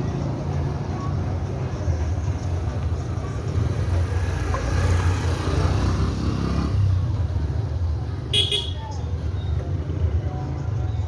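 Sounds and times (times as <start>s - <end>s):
street noise: 0.0s - 11.0s
vehicle engine rumbling: 0.0s - 11.0s.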